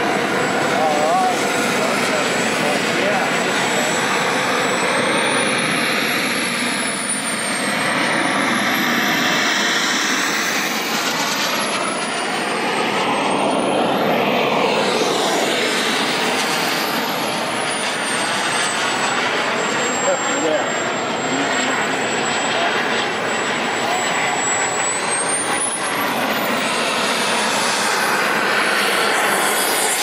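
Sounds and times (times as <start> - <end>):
model jet turbine whining: 0.0 - 30.0.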